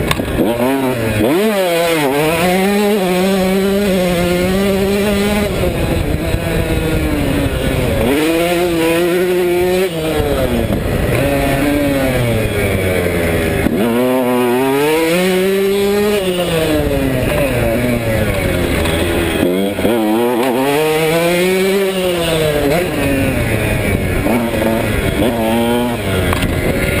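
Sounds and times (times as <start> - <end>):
motocross engine revving: 0.0 - 27.0.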